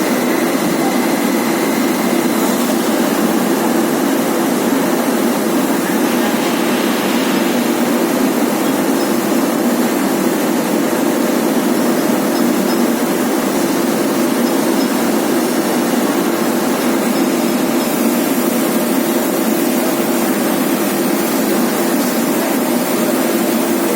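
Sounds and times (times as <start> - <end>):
washing machine running: 0.0 - 23.9.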